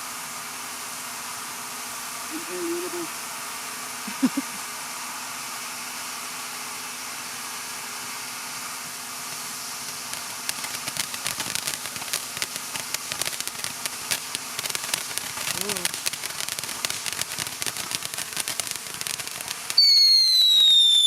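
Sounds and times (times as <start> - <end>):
fireworks crackling: 0.0 - 21.0
fireworks hissing: 0.0 - 21.0.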